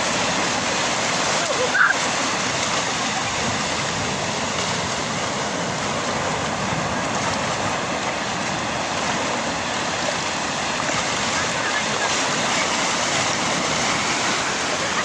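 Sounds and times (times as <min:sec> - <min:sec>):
sea surf breaking on beach: 0:00.0 - 0:15.0.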